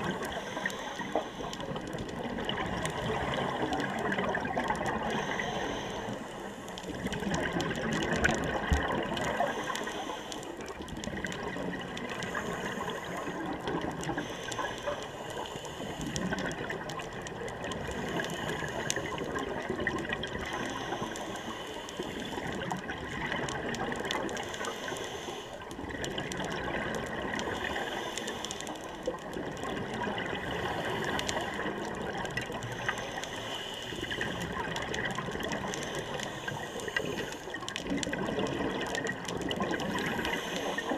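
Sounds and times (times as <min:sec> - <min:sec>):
underwater bubbles and breathing: 0:00.0 - 0:40.9.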